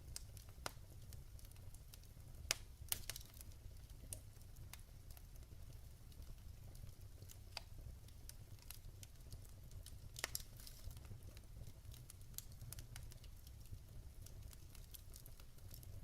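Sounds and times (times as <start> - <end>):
logs crackling in a fireplace: 0.0 - 16.0
sharp pops of fire: 0.1 - 5.2, 6.1 - 16.0.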